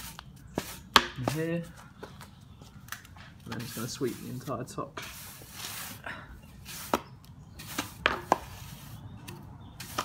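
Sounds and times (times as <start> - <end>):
brush sweeping concrete: 0.0 - 1.7, 3.4 - 10.0.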